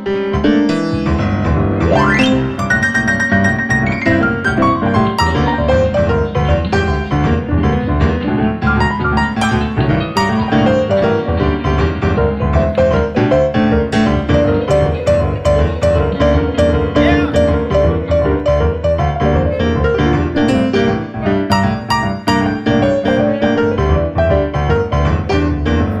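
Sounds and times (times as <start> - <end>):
keyboard: 0.0 - 26.0.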